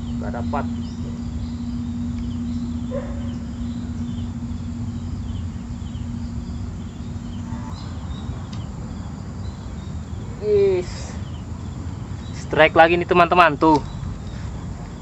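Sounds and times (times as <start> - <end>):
low steady hum: 0.0 - 15.0
steady low rumble: 0.0 - 15.0.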